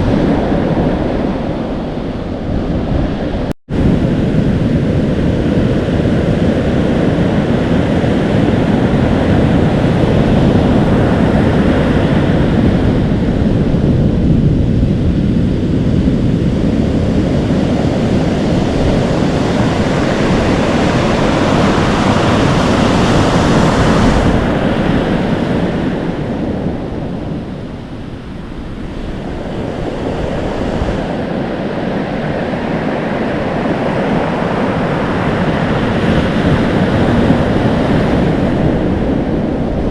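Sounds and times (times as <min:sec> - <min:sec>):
surf washing in and foaming: 0:00.0 - 0:39.9
wind buffeting microphone: 0:00.0 - 0:39.9.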